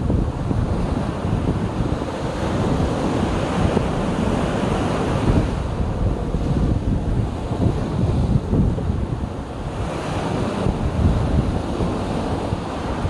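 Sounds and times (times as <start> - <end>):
sea waves breaking: 0.0 - 13.0
wind buffeting microphone: 0.0 - 13.0.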